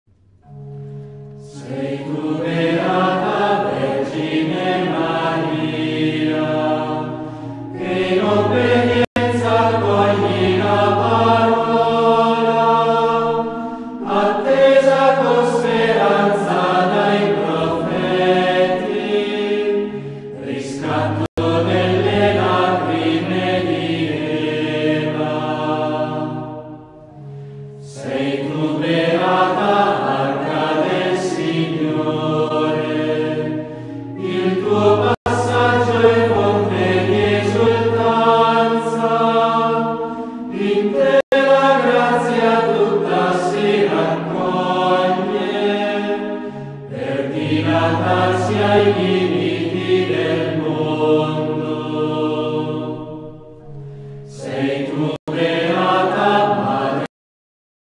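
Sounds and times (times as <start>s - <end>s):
choir singing long notes: 0.4s - 57.1s.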